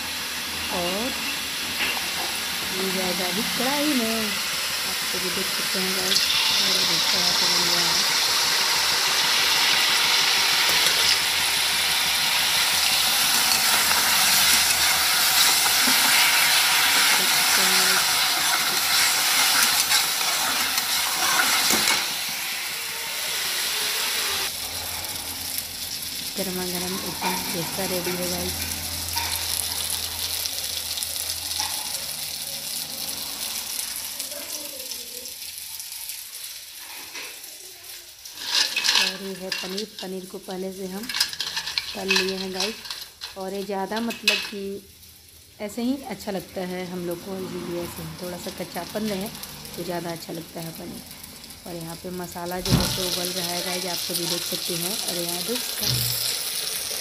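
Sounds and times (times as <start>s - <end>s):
batter sizzling in hot oil: 0.0s - 57.0s.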